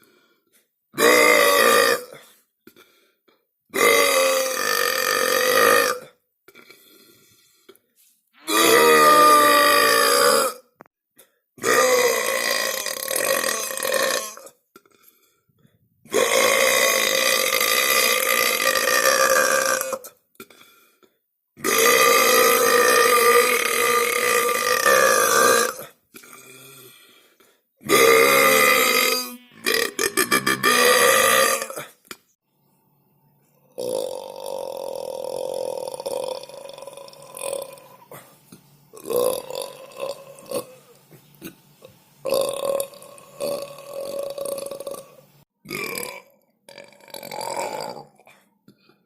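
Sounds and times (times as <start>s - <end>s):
person burping: 1.0s - 3.0s, 3.7s - 7.0s, 8.4s - 10.9s, 11.6s - 15.0s, 16.1s - 20.8s, 21.6s - 26.8s, 27.8s - 32.2s, 33.7s - 38.4s, 39.0s - 41.6s, 42.3s - 49.0s.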